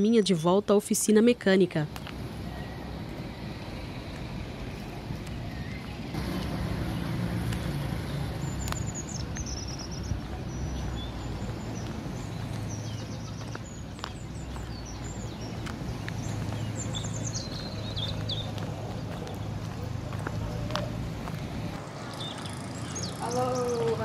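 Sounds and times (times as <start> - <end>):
small birds chirping: 1.9 - 24.0.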